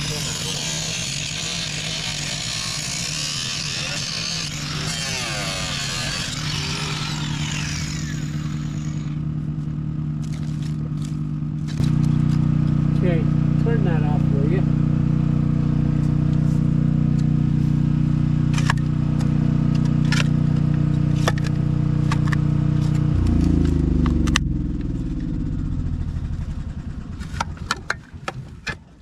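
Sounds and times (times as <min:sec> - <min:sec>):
engine running and spinning down: 0:00.0 - 0:29.0.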